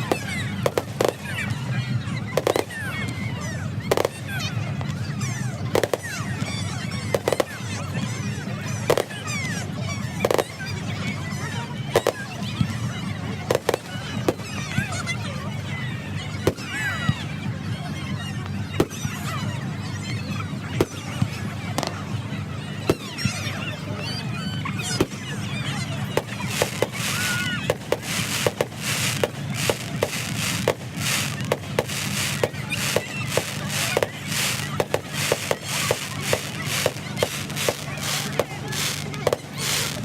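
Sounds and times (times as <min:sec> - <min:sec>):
fireworks bangs and crackling: 0:00.0 - 0:17.4, 0:18.4 - 0:19.4, 0:20.6 - 0:23.6, 0:24.2 - 0:40.0.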